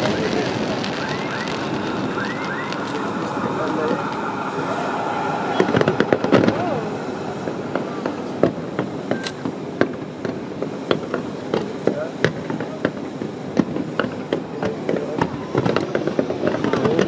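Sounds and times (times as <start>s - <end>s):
crowd chatter: 0.0s - 17.0s
fireworks banging: 0.0s - 17.0s.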